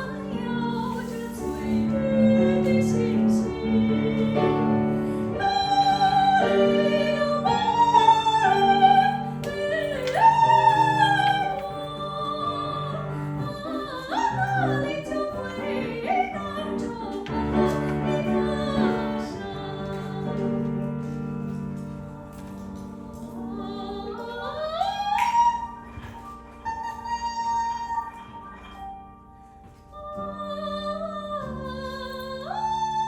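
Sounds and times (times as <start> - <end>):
instrumental accompaniment: 0.0 - 32.6.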